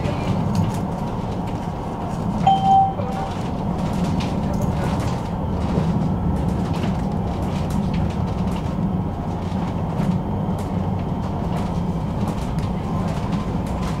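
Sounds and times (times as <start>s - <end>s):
tram rumbling on rails: 0.0s - 14.0s.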